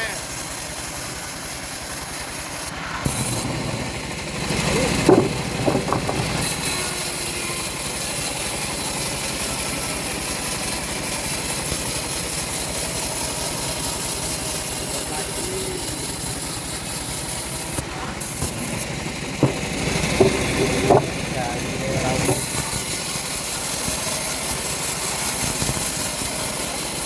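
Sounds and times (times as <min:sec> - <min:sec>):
bandsaw mill engine running: 0:00.0 - 0:27.0.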